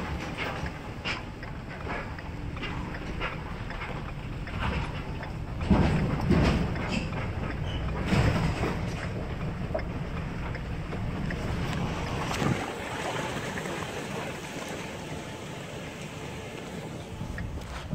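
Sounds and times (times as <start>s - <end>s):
truck engine and tyres rumbling: 0.0s - 17.9s.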